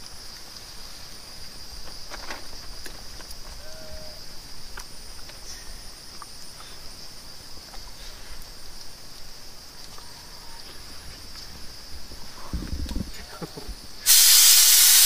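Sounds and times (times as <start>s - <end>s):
insects buzzing: 0.0s - 15.0s
pulsing insect chirp: 0.0s - 15.0s.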